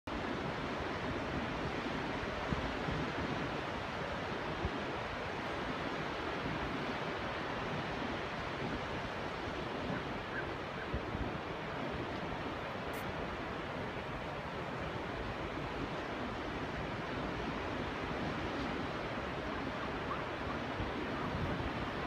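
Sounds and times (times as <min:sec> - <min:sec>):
waves washing up a beach: 0:00.1 - 0:22.0
wind rumbling on microphone: 0:00.1 - 0:22.0.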